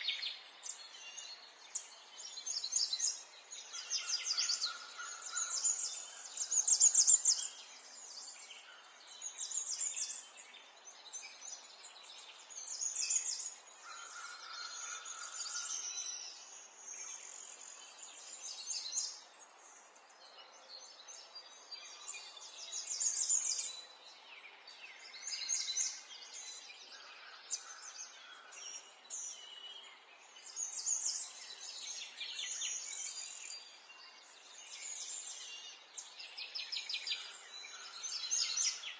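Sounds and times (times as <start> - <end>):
faint outdoor hiss: 0.0 - 38.9
songbirds chirping: 0.0 - 38.9.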